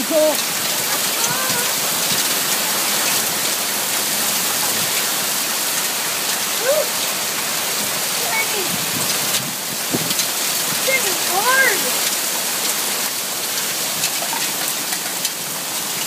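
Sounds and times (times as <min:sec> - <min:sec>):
raindrop impact ticks: 0:00.0 - 0:05.1, 0:08.2 - 0:16.0
heavy rain pouring: 0:00.0 - 0:16.0.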